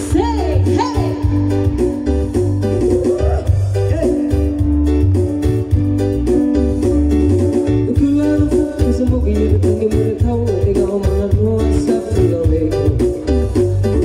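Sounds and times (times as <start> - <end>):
music with heavy bass and beat: 0.0 - 14.0
plucked guitar: 0.0 - 14.0.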